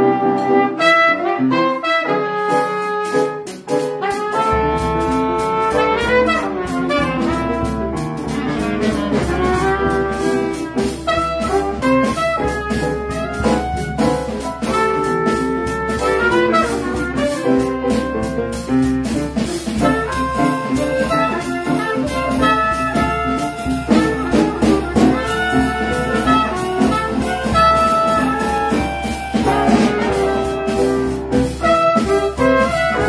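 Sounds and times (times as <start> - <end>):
clarinet: 0.0 - 33.0
drum kit played with sticks: 0.0 - 33.0
piano: 0.0 - 33.0
trumpet: 0.0 - 33.0.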